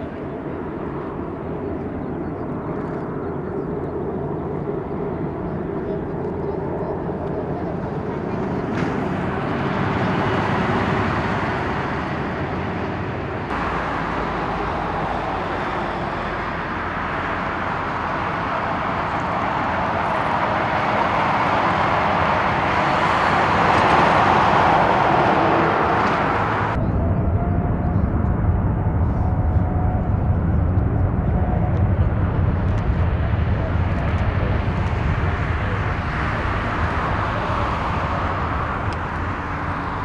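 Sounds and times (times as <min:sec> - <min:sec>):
deep engine rumble: 0:00.0 - 0:40.0
jet engines rushing: 0:00.0 - 0:40.0.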